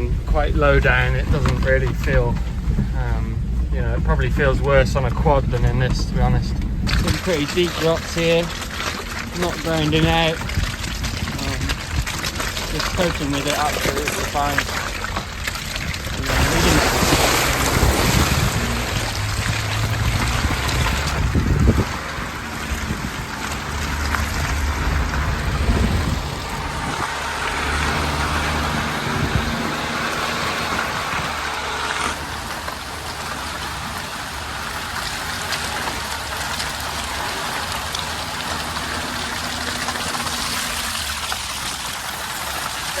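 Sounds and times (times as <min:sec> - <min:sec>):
truck engine running: 0:00.0 - 0:43.0
rain hiss: 0:05.8 - 0:43.0.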